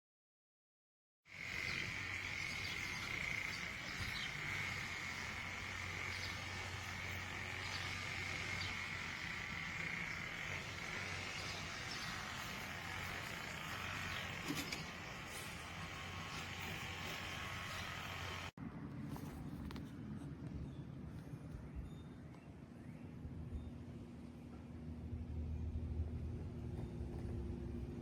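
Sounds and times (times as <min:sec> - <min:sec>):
continuous low hum: 0:01.3 - 0:28.0.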